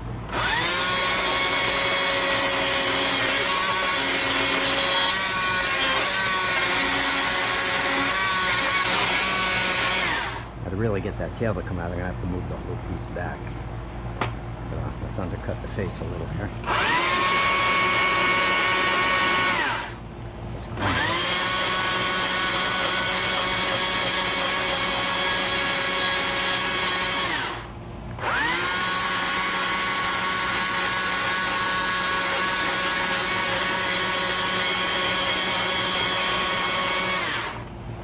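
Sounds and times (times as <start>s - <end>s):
chainsaw revving and idling: 0.3s - 10.5s, 16.6s - 20.0s, 20.8s - 37.7s.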